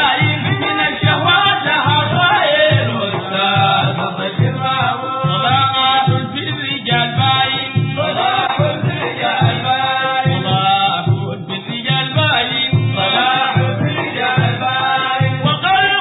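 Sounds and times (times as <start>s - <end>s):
frame drums beating: 0.0s - 16.0s
men singing praise song: 0.0s - 16.0s.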